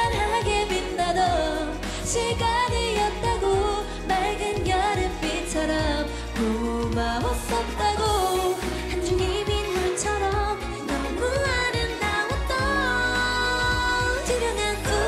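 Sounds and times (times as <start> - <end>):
female vocals singing: 0.0 - 15.0
pop backing track: 0.0 - 15.0.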